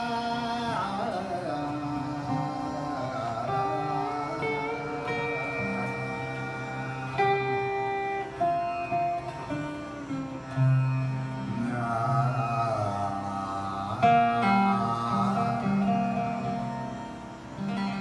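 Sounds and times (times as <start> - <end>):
slide guitars gliding notes: 0.0 - 18.0.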